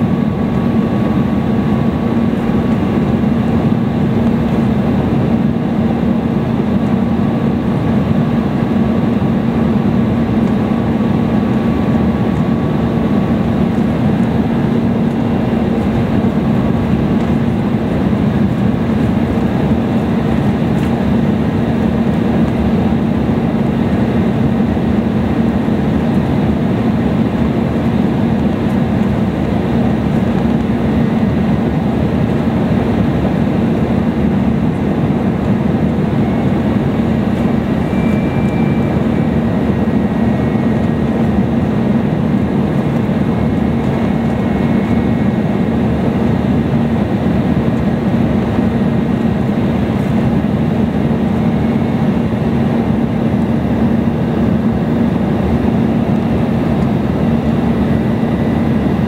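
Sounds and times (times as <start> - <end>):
airliner cabin engine rush: 0.0 - 59.0.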